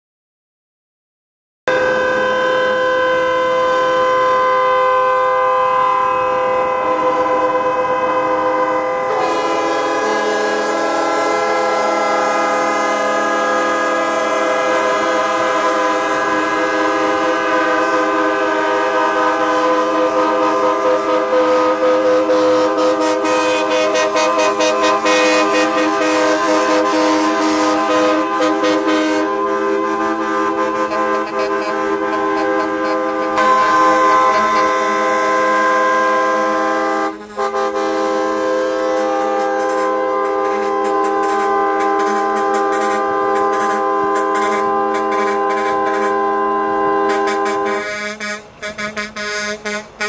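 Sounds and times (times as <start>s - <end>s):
truck air horns: 1.7s - 50.0s.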